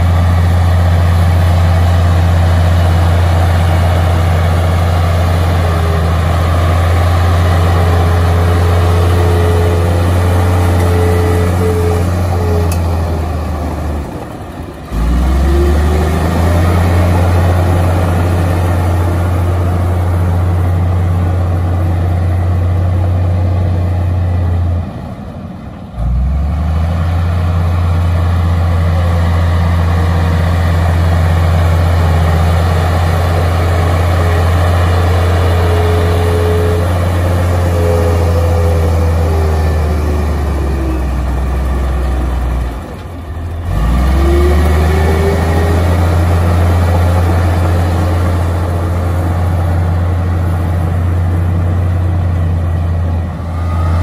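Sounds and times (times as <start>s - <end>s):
bulldozer engine running hard: 0.0s - 54.0s.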